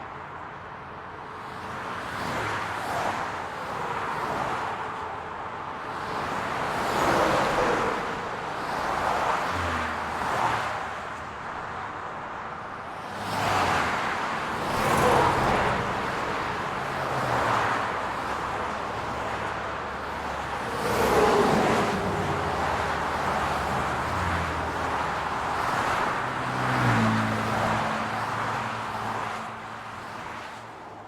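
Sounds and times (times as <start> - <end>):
cars passing: 1.3 - 31.0.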